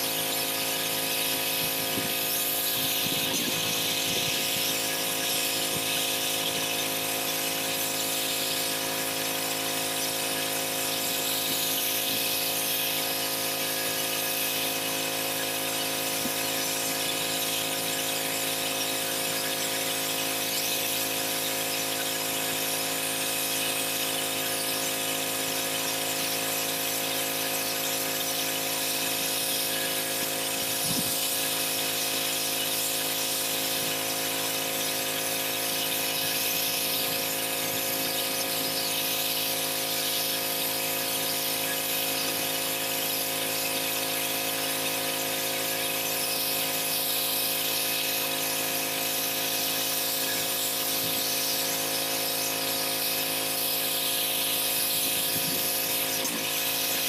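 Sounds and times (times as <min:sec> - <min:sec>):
pressure washer hum: 0:00.0 - 0:57.0
water jet hissing: 0:00.0 - 0:57.0.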